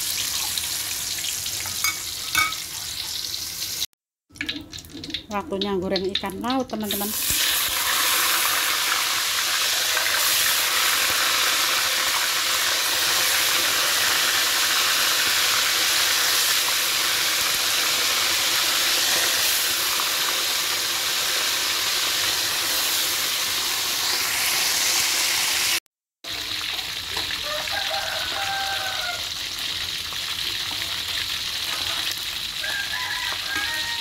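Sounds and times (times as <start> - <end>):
fish sizzling in hot oil: 0.0 - 5.2, 5.8 - 34.0.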